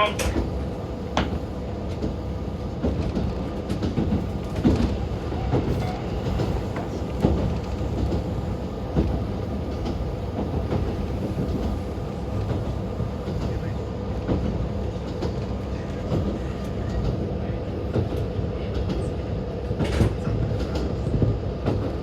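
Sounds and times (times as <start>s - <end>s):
railcar engine rumble: 0.0s - 22.0s.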